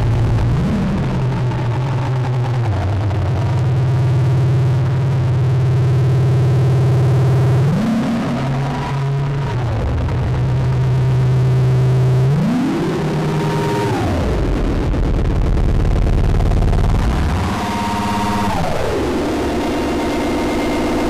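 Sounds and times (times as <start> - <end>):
synthesizer drone: 0.0 - 21.0.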